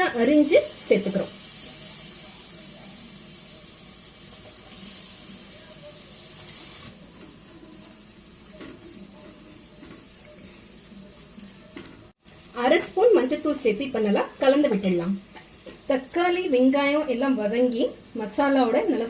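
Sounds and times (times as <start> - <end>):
tomatoes sizzling in butter: 0.0 - 19.0.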